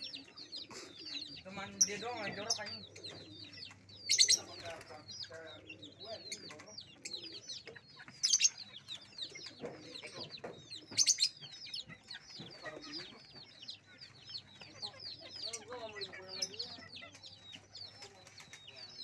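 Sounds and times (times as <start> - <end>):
chickens clucking: 0.0 - 19.0
lovebirds chattering: 0.0 - 19.0.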